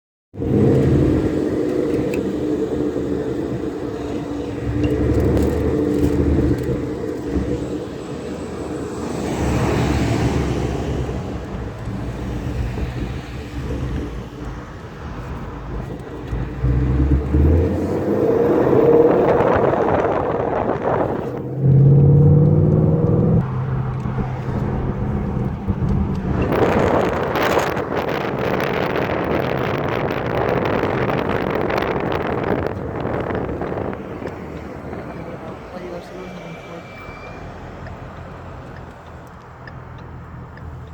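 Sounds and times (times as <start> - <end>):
car engine revving: 0.4 - 35.4.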